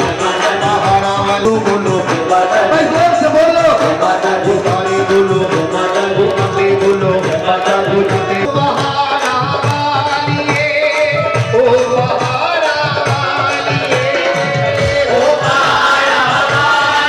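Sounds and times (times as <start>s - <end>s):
crowd clapping along: 0.0s - 17.0s
hand drum rhythm: 0.0s - 17.0s.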